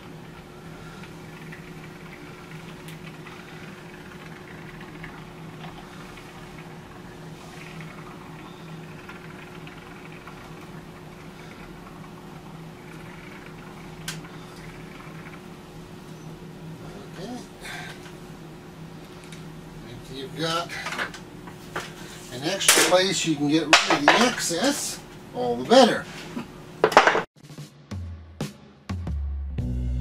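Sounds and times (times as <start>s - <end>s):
low room hum: 0.0s - 26.8s.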